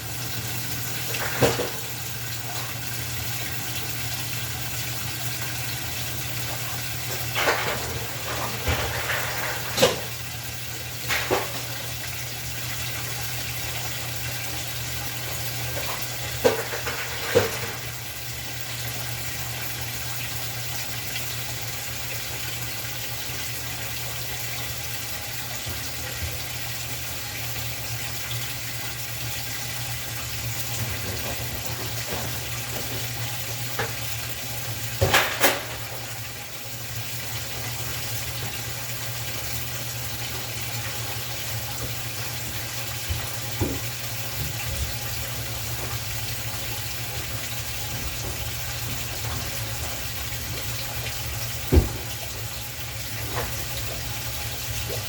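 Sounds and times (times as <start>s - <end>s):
washing machine filling with water: 0.0s - 55.0s.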